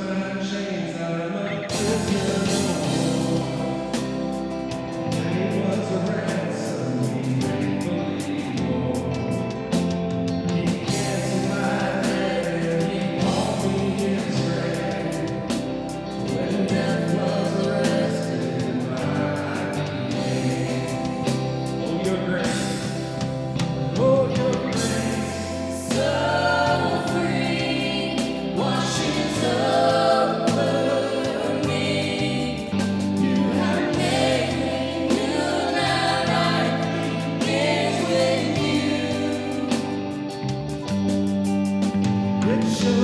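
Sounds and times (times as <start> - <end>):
worship band with voices singing: 0.0 - 43.0.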